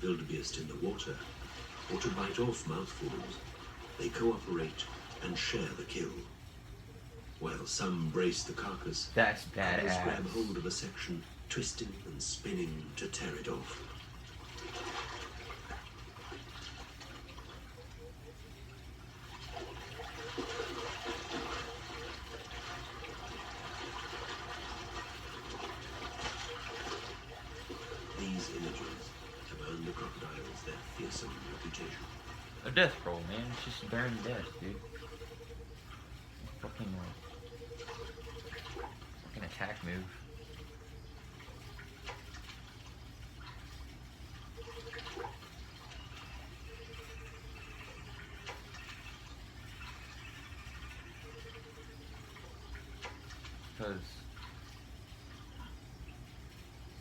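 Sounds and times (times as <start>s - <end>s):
water splashing and churning: 0.0s - 6.5s, 10.1s - 56.7s
faint steady hum: 0.0s - 57.0s.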